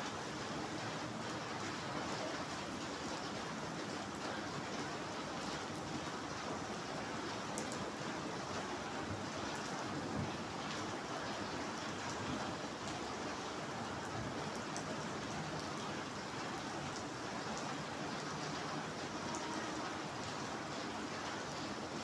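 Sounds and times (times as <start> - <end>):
rain hissing on paving: 0.0 - 22.0.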